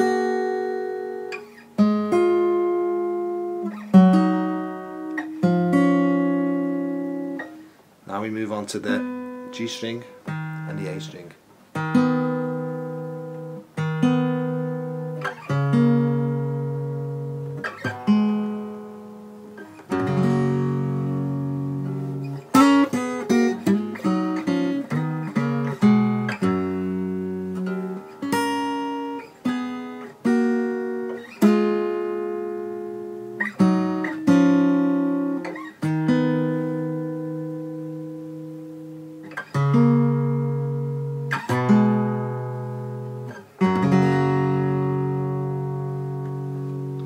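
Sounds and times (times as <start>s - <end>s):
acoustic guitar playing: 0.0s - 47.0s.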